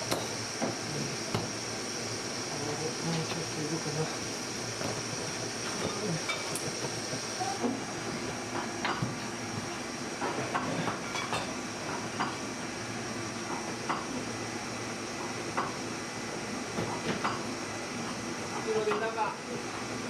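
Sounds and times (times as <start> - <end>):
workshop hiss and hum: 0.0 - 20.0.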